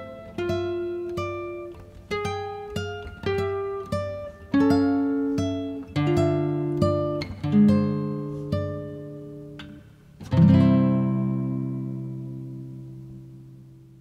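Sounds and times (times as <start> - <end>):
guitar chord ringing: 0.0 - 14.0
plucked guitar notes: 0.0 - 14.0.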